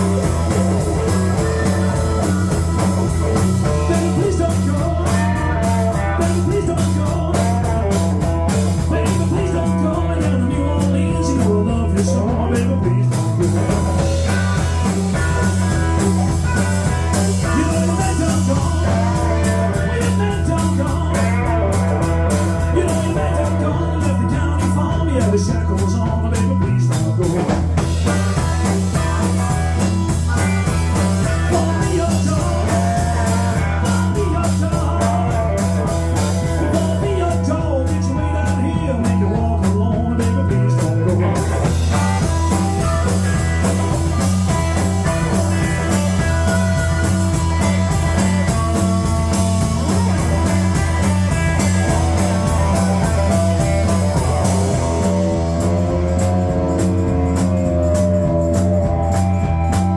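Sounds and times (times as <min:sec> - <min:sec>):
bass riff: 0:00.0 - 0:59.9
electric guitar lead: 0:00.0 - 0:59.9
steady drum beat: 0:00.0 - 0:59.9.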